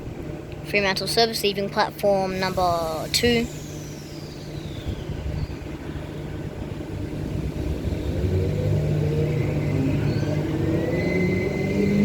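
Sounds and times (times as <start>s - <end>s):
train running rumble: 0.0s - 12.0s.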